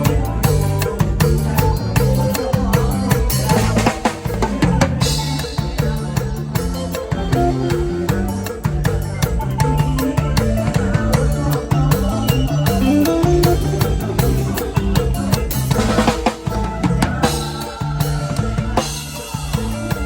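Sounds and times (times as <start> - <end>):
bass line: 0.0 - 20.0
drum kit beat: 0.0 - 20.0.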